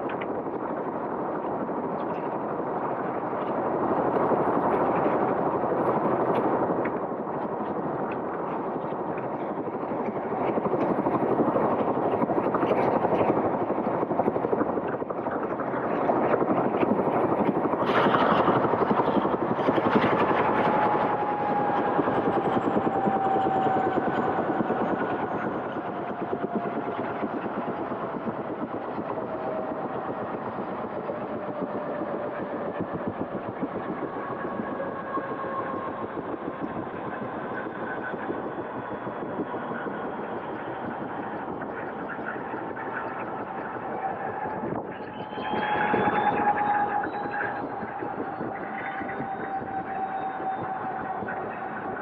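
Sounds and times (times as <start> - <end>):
helicopter rotor chop: 2.5 - 52.0
helicopter engine whine: 3.5 - 52.0.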